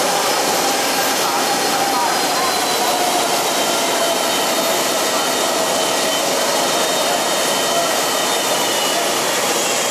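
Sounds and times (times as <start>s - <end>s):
jet engines rushing: 0.0s - 9.9s.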